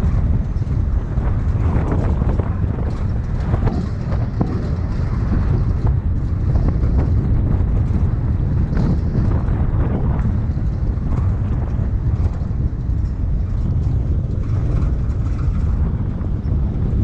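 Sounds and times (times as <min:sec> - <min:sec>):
vehicle engine rumble: 0:00.0 - 0:17.0
wind buffeting microphone: 0:00.0 - 0:17.0.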